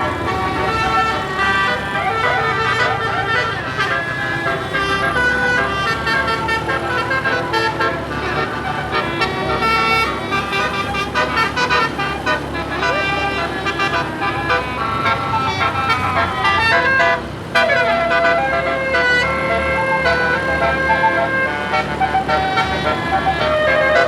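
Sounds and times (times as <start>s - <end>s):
musical air horn melody: 0.0s - 24.0s.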